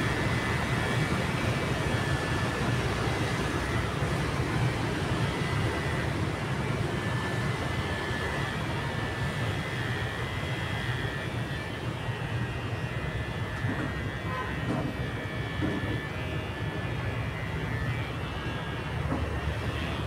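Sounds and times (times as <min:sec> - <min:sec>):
electric hair clippers buzzing: 0:00.0 - 0:20.0.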